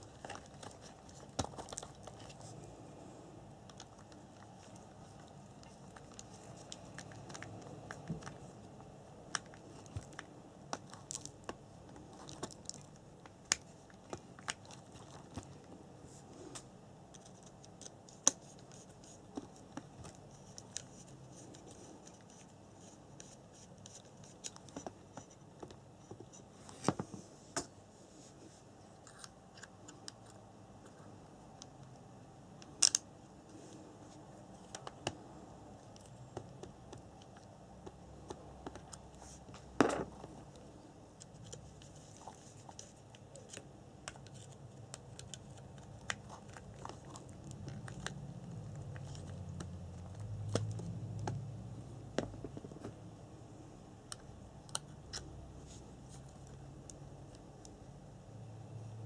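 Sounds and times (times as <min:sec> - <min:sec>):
low steady hiss: 0:00.0 - 0:59.0.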